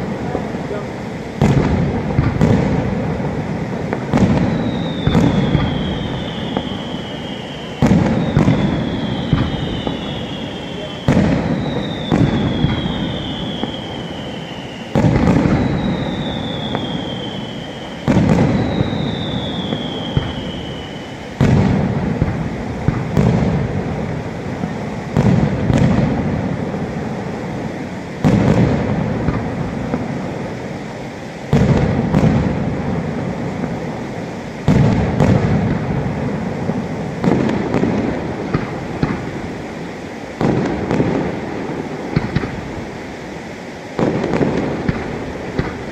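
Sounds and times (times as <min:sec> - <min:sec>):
firework shells bursting: 0:00.0 - 0:45.9.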